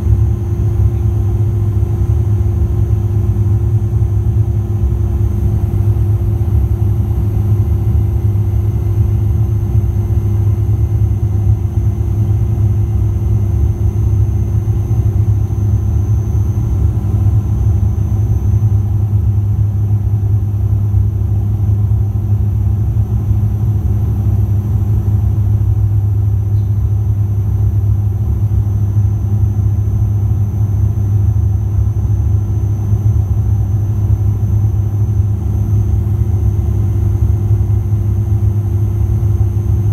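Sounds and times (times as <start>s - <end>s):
propeller low hum: 0.0s - 39.9s.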